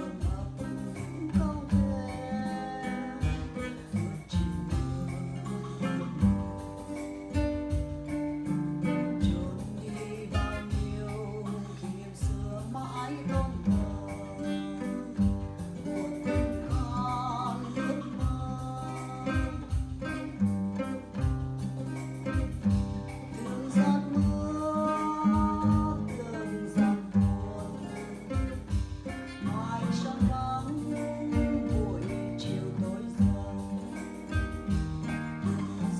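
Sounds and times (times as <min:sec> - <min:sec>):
slow guitar-led instrumental: 0:00.0 - 0:35.9.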